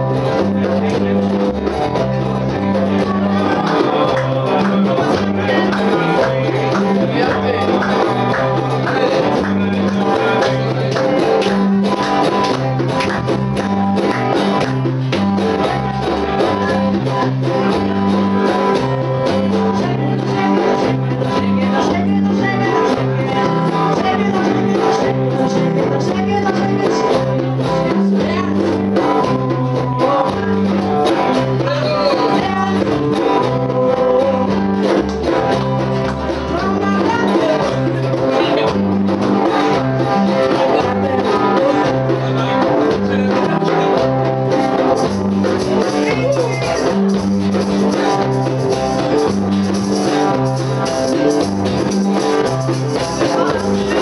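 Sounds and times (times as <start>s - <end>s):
electric and acoustic guitars: 0.0s - 54.0s
electric bass guitar line: 0.0s - 54.0s
person singing: 0.0s - 54.0s.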